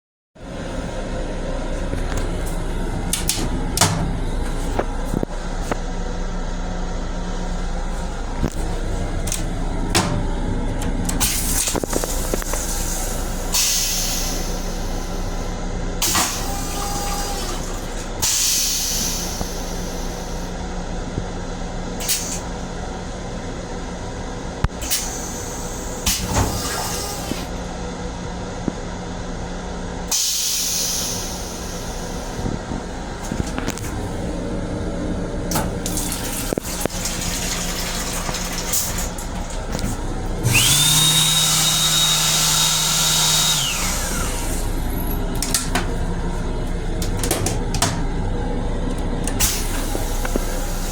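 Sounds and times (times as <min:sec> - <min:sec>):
railcar hum: 0:00.4 - 0:50.9.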